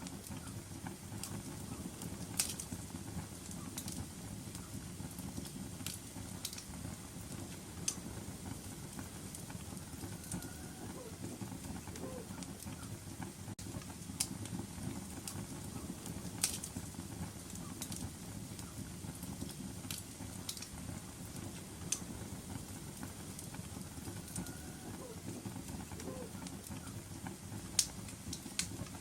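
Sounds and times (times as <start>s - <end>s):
fire crackling pops: 0.0s - 29.0s
fire flames rumbling: 0.0s - 29.0s.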